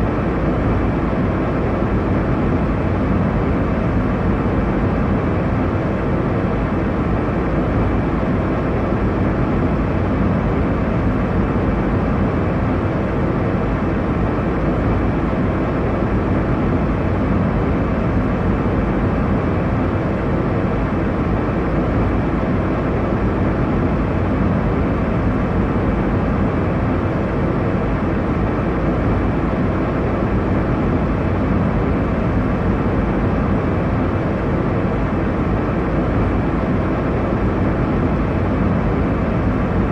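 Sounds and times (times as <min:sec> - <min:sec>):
airliner cabin roar: 0:00.0 - 0:39.9.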